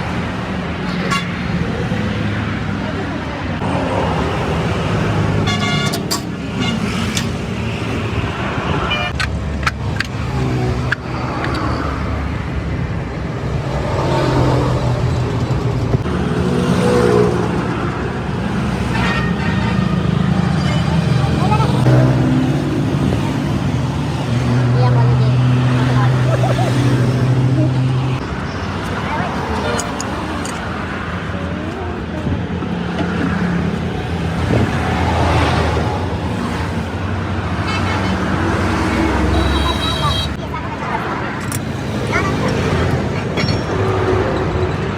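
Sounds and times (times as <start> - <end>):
road traffic noise: 0.0 - 44.9.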